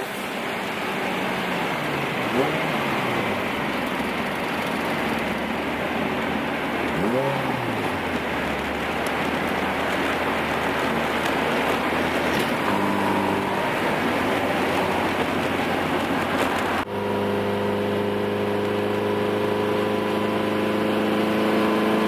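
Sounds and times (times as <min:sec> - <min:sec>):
car engine: 0:00.0 - 0:22.0
engine revving: 0:00.0 - 0:22.0
road noise: 0:00.0 - 0:22.0.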